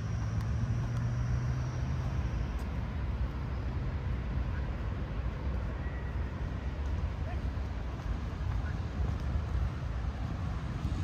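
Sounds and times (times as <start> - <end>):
low rumble of traffic: 0.0 - 11.0
vehicle engine hum: 0.0 - 11.0.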